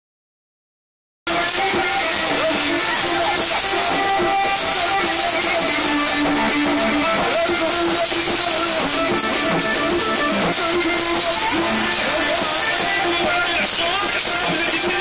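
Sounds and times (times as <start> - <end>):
live amplified band music: 1.3 - 15.0
person singing into microphone: 1.3 - 15.0.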